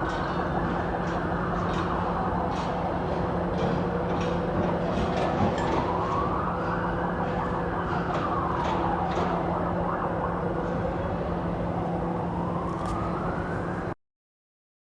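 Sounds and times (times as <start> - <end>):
emergency siren wailing: 0.0 - 14.0
traffic hum: 0.0 - 14.0.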